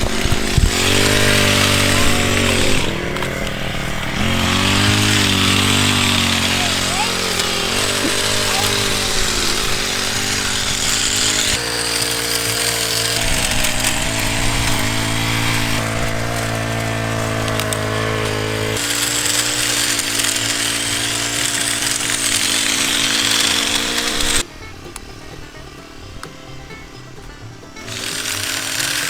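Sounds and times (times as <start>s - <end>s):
hedge trimmer engine running: 0.0s - 29.0s.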